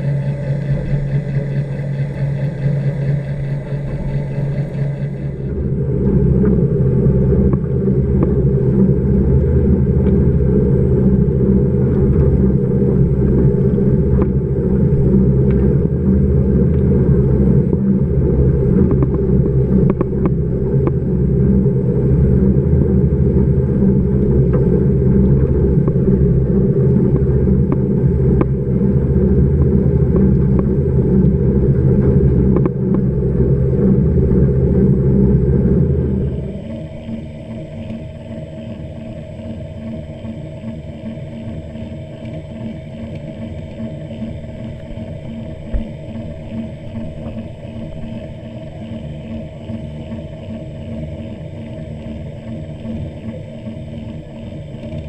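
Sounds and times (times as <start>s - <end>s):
underwater treadmill rumble and hum: 0.0s - 55.0s.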